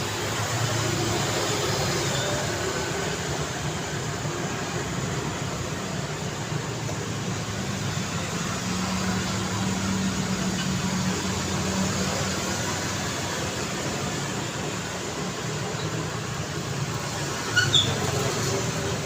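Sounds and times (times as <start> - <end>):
city street traffic: 0.0 - 19.0
vehicle engine hum: 0.0 - 19.0.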